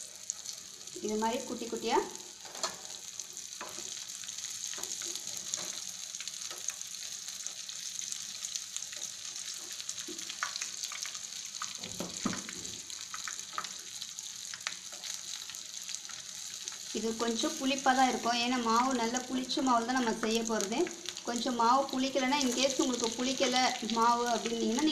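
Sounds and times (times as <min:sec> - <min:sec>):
fritters sizzling in hot oil: 0:00.0 - 0:24.9.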